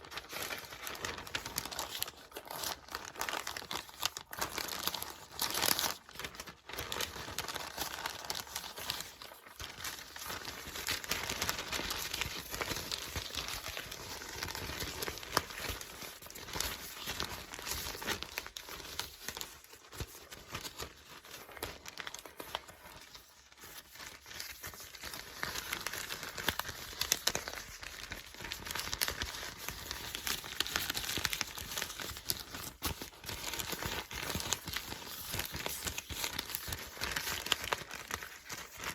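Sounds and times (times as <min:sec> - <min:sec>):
book pages turning: 0:00.0 - 0:10.7, 0:12.0 - 0:38.9.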